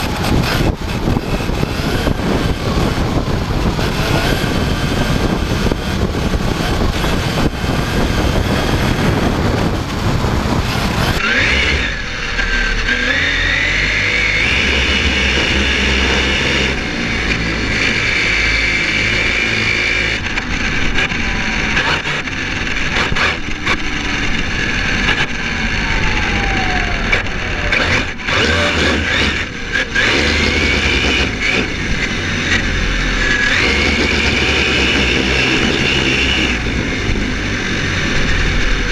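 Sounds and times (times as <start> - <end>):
electric motor whine: 0.0 - 38.9
wind and road noise: 0.0 - 38.9.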